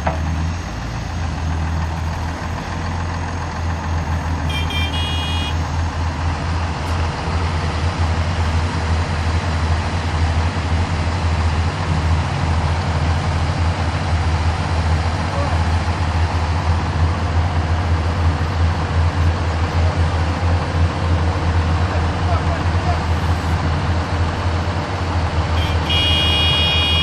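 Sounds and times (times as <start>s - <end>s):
heavy diesel engines droning: 0.0s - 27.0s.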